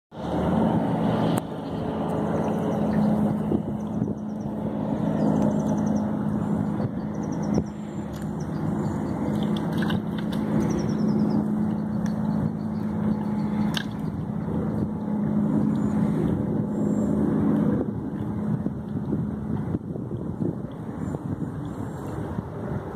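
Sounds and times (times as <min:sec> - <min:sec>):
distant engine humming: 0:00.1 - 0:22.9
outdoor background noise: 0:00.1 - 0:22.9.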